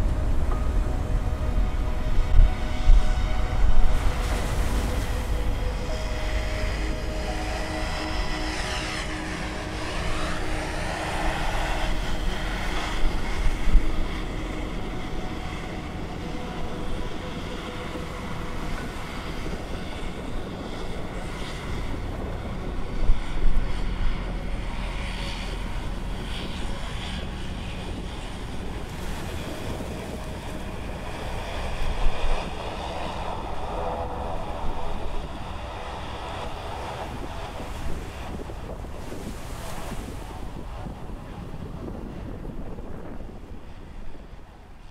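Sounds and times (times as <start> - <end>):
jet engine roar with whine: 0.0 - 44.9
wind buffeting microphone: 0.0 - 44.9.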